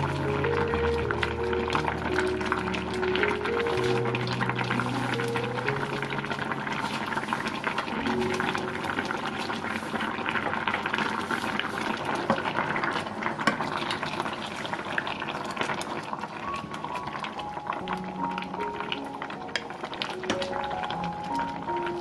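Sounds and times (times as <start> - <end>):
wooden spatula stirring: 0.0 - 14.7, 18.8 - 22.0
braising liquid bubbling in a pot: 0.0 - 22.0.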